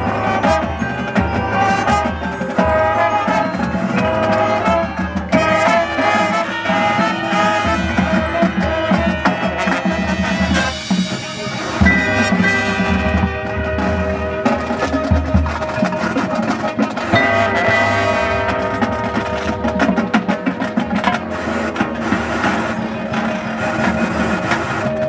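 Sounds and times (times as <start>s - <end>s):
brass melody: 0.0s - 25.0s
marching band playing: 0.0s - 25.0s
snare and bass drums: 0.0s - 25.0s.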